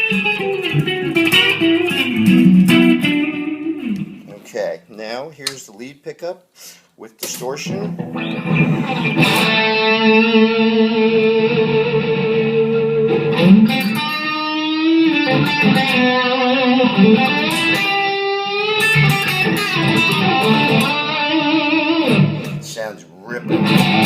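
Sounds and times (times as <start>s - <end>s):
distorted electric guitar: 0.0s - 4.3s, 7.7s - 22.8s, 23.4s - 24.0s.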